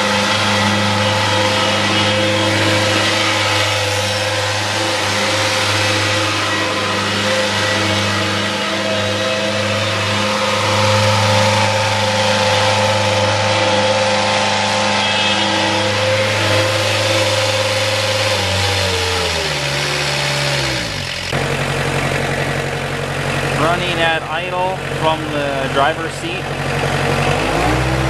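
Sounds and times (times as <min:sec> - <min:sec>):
mower diesel engine running: 0:00.0 - 0:28.0.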